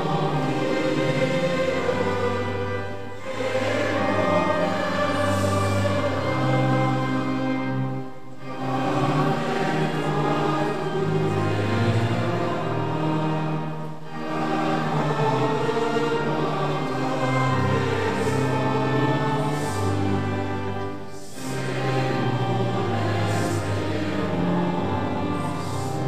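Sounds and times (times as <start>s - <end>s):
congregation singing a hymn: 0.0s - 26.0s.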